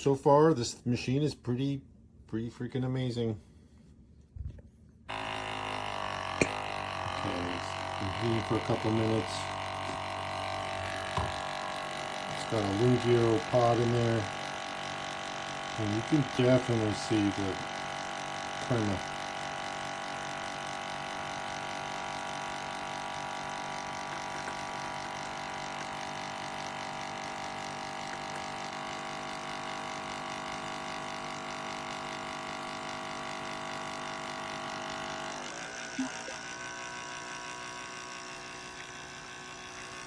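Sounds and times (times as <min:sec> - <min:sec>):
espresso maker pump buzzing: 0:05.1 - 0:40.0.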